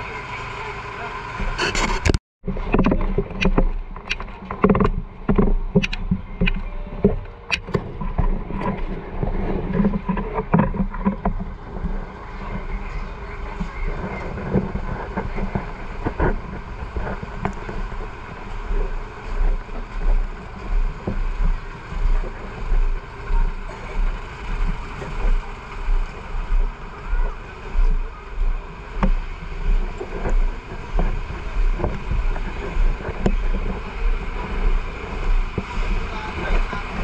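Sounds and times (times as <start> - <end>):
wind noise on microphone: 1.3 - 37.0
low thumps of walking: 2.1 - 37.0.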